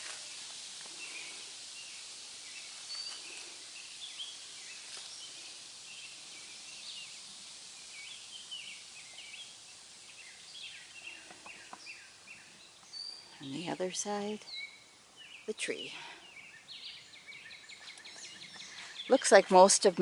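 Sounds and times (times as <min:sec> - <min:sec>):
birds chirping: 0:00.0 - 0:20.0
faint steady hiss: 0:00.0 - 0:20.0.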